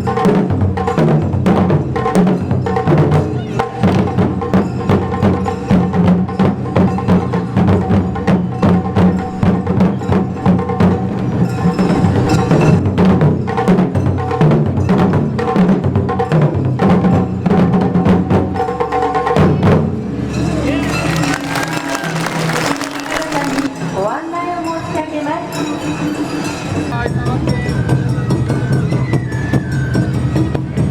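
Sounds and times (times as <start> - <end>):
music with clacking percussion: 0.0 - 30.9.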